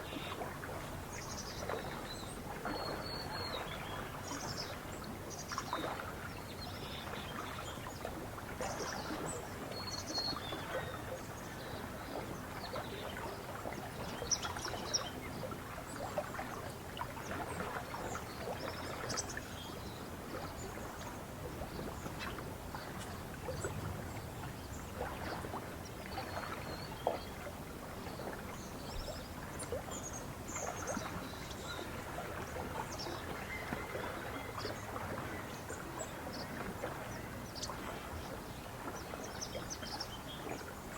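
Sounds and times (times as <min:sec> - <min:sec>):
small waves lapping: 0:00.0 - 0:40.9.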